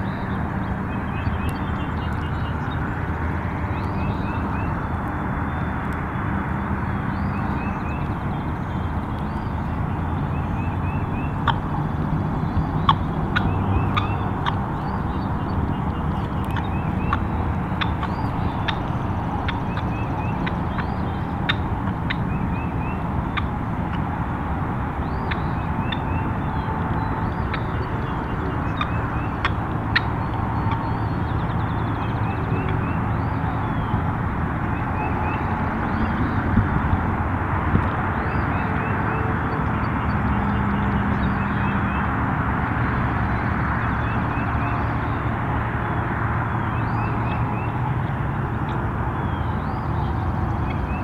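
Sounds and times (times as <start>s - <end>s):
distant engine rumble: 0.0s - 51.0s.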